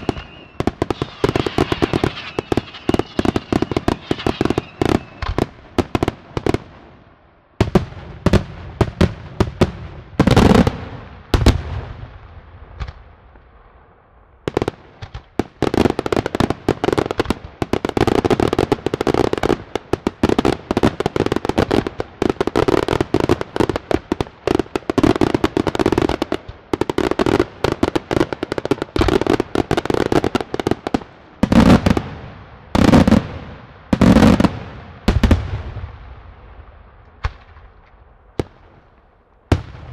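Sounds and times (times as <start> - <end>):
fireworks bangs: 0.0 - 7.0, 7.6 - 39.9.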